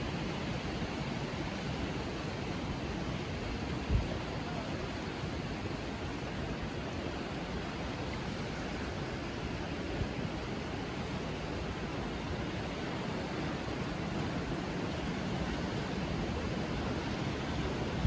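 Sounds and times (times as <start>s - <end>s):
wind and surf rushing: 0.0s - 18.0s.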